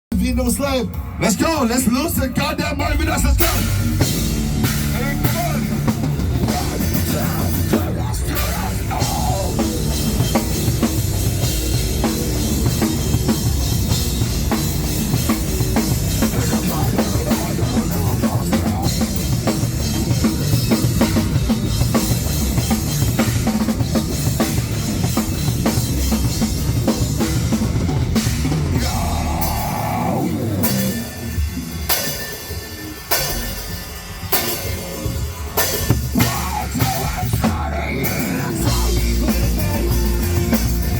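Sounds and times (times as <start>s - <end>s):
drum kit with cymbals: 0.1s - 40.9s
rock band playing: 0.1s - 40.9s.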